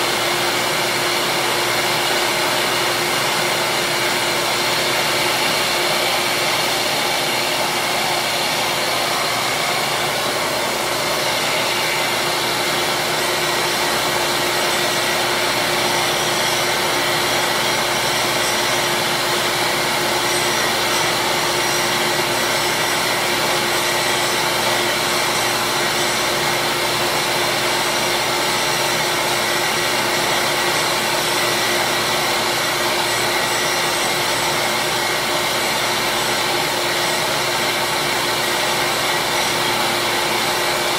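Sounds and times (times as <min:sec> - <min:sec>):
bench grinder whirring: 0:00.0 - 0:40.9.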